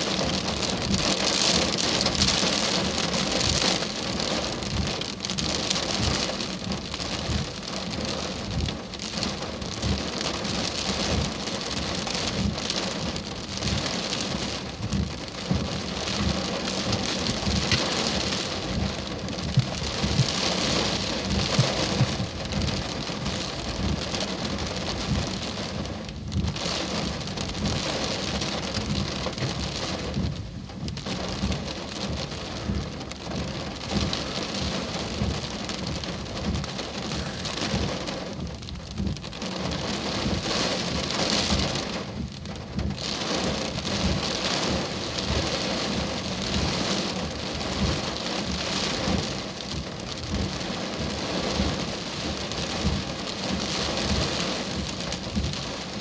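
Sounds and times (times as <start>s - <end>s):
heavy rain pouring: 0.0s - 56.0s
raindrops thudding on surface: 0.0s - 56.0s.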